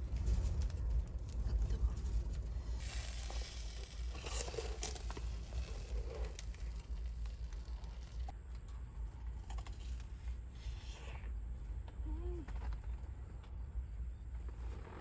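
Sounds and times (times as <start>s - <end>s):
faint crinkling: 0.0s - 13.6s.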